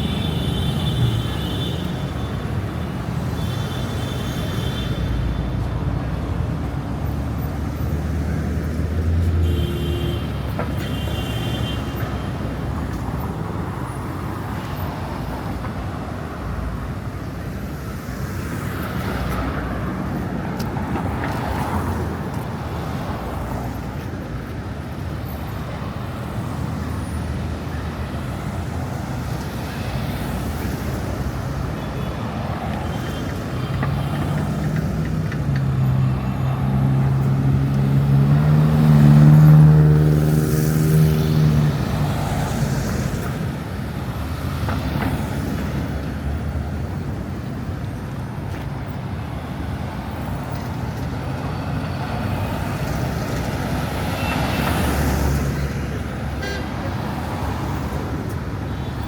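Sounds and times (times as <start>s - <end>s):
city street traffic: 0.0s - 59.0s.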